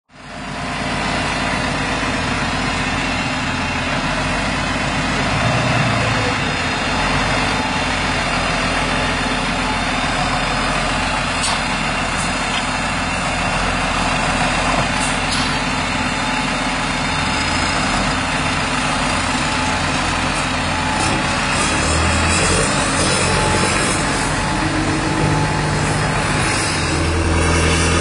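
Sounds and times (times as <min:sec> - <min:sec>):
second tractor engine: 0:00.1 - 0:28.0
tractor diesel engine running: 0:00.1 - 0:28.0.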